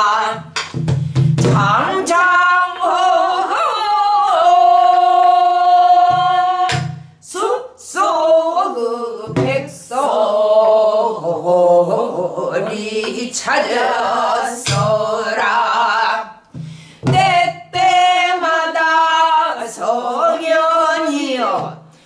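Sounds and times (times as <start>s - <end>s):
woman singing: 0.0s - 0.6s, 1.4s - 16.4s, 17.0s - 21.9s.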